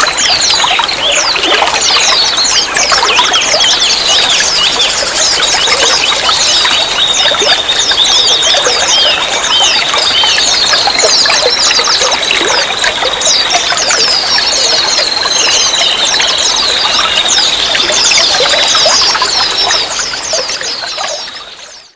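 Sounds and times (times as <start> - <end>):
water trickling and pouring: 0.0 - 21.9.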